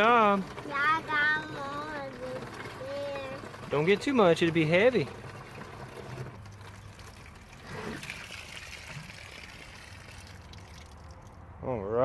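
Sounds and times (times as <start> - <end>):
water trickling into container: 0.0 - 11.5.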